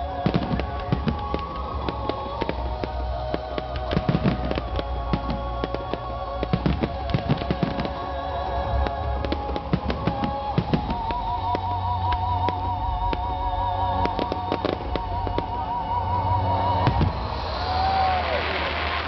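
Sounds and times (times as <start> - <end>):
fireworks bangs and crackles: 0.0 - 13.3, 14.0 - 15.7, 16.6 - 19.0
music playing: 0.0 - 19.0.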